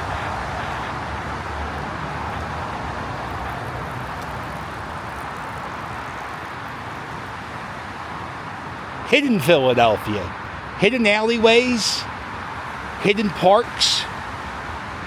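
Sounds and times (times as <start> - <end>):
highway traffic rushing: 0.0 - 15.0.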